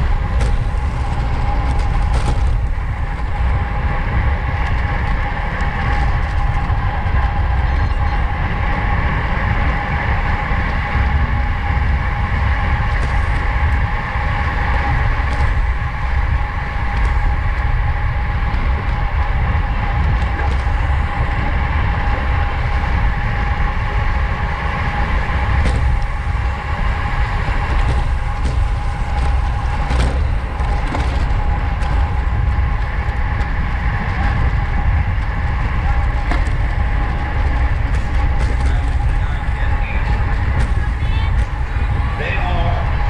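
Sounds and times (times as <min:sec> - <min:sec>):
constant hum: 0:00.0 - 0:43.0
wind rushing over microphone: 0:00.0 - 0:43.0.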